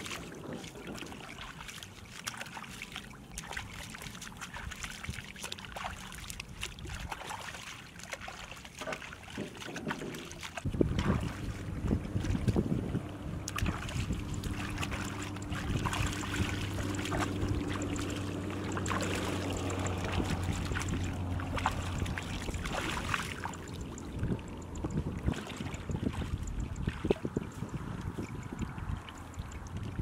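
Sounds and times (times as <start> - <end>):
low engine hum: 0.0 - 30.0
water splashing and sloshing: 0.0 - 30.0.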